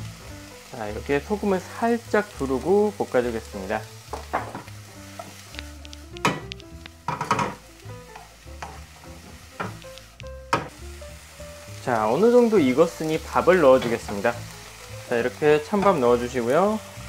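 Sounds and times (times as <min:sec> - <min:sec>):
background music: 0:00.0 - 0:17.0
vegetables sizzling in frying pan: 0:00.0 - 0:17.0.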